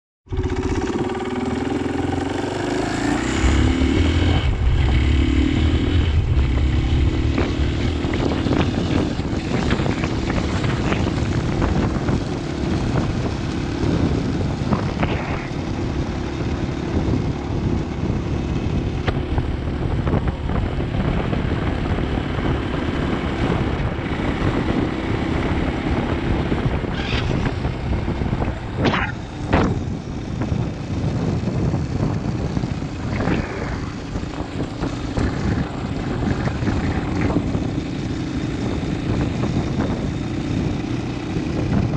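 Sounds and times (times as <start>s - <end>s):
motorcycle engine running: 0.3s - 41.9s.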